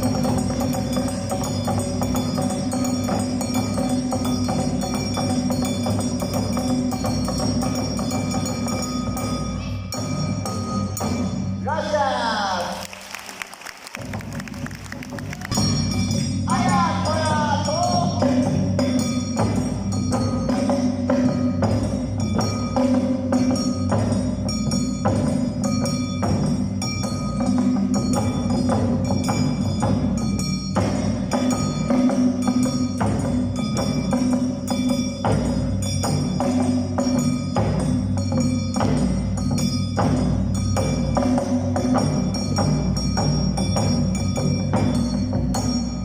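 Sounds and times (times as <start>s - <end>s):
drums: 0.0s - 46.0s.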